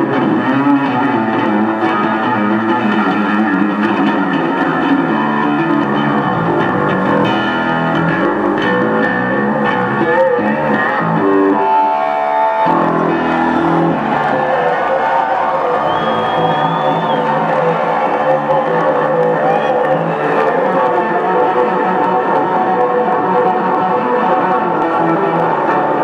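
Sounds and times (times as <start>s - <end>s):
electric bass solo: 0.0s - 11.9s, 12.6s - 26.0s.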